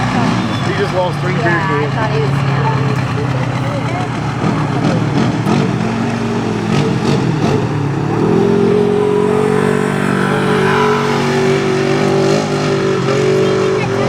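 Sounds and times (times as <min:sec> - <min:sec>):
off-road engine revving: 0:00.0 - 0:14.0.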